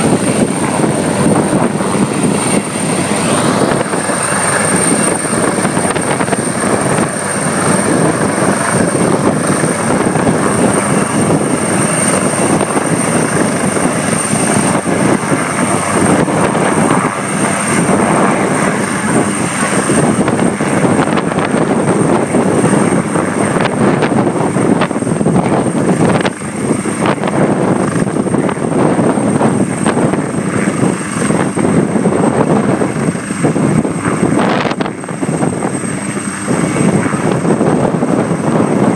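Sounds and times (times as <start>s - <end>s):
helicopter rotor and engine roar: 0.0s - 38.9s
high turbine whine: 0.0s - 38.9s.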